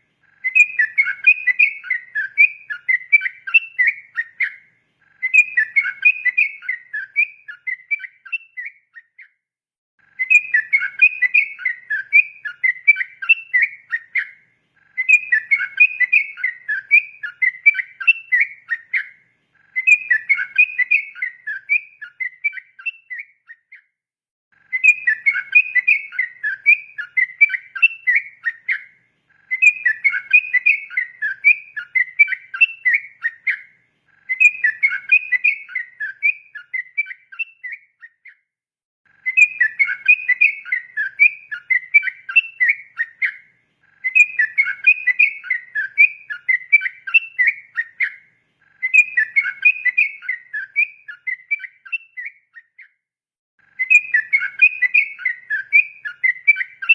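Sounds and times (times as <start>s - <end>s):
bird singing bubbling whistles: 0.3s - 9.4s, 10.2s - 23.9s, 24.7s - 38.4s, 39.2s - 53.0s, 53.8s - 56.9s.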